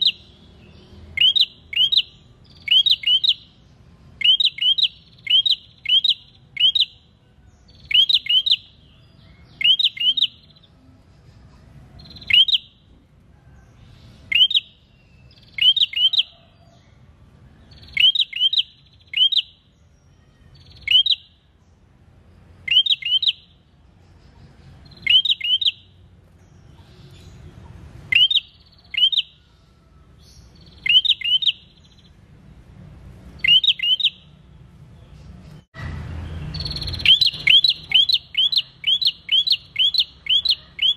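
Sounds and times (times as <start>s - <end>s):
bird chirping: 0.0s - 13.0s, 13.6s - 32.5s, 33.1s - 40.9s.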